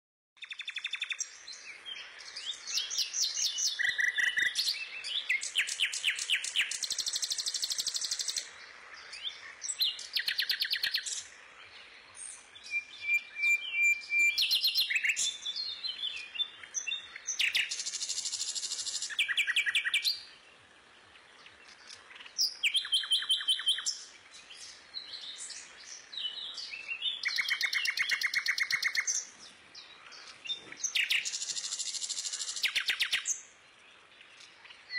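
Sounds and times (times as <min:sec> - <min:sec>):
small birds chirping: 0:00.4 - 0:34.9.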